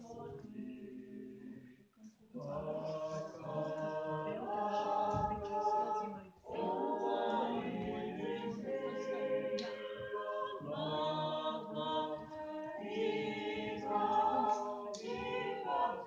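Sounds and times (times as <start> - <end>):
women and children singing: 0.0 - 1.8, 2.4 - 16.0.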